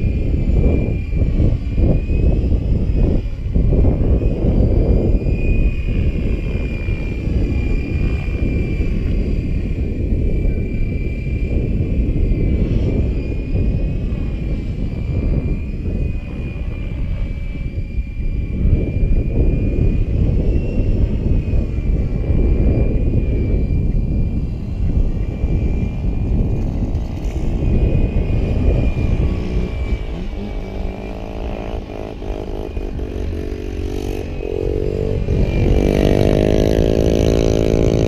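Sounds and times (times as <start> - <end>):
rc helicopter whine: 0.0 - 38.0
wind buffeting microphone: 0.0 - 38.0.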